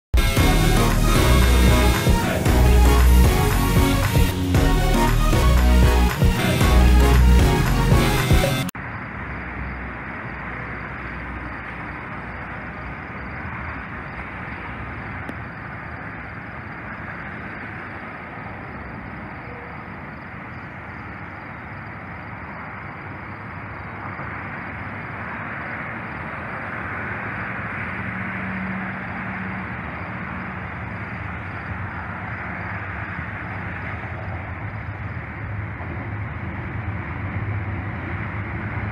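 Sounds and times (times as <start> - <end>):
low engine drone: 0.2 - 20.6, 21.5 - 38.9
distant diesel locomotives: 0.2 - 38.9
road traffic rumble: 0.2 - 38.9.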